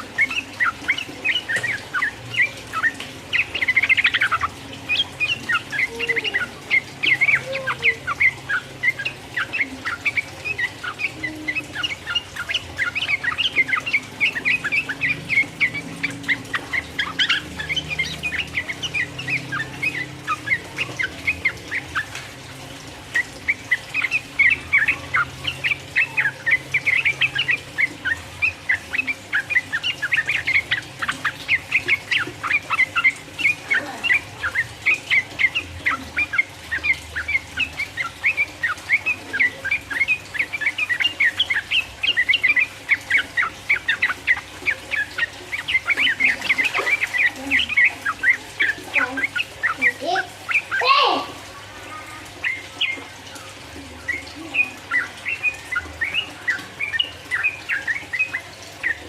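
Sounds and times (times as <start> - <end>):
bird singing chattering notes: 0.0 - 59.0.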